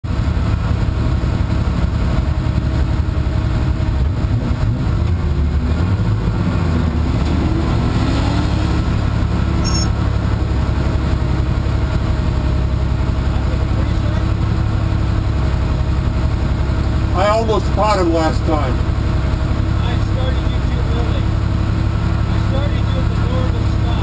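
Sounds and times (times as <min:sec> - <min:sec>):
race car engine idling: 0:00.0 - 0:07.8, 0:08.7 - 0:24.0.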